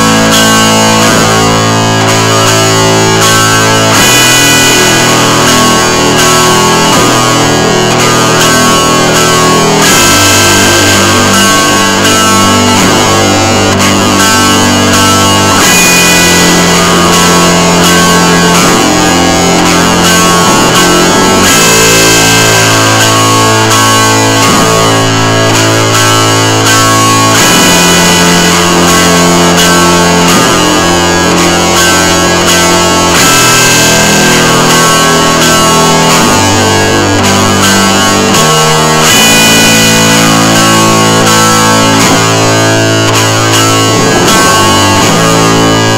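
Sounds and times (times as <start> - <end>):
distorted electric guitar music: 0.0 - 45.9.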